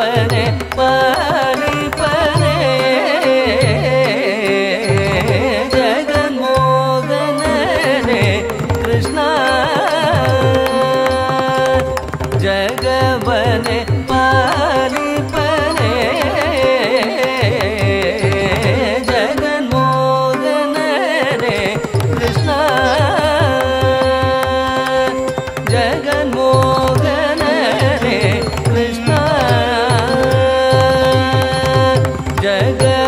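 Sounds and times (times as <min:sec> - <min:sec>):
person singing ornamented melody: 0:00.0 - 0:33.0.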